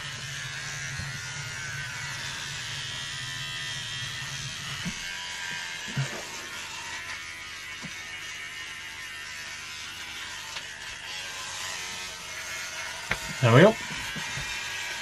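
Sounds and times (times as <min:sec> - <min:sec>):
electric hair trimmer buzzing: 0:00.0 - 0:15.0.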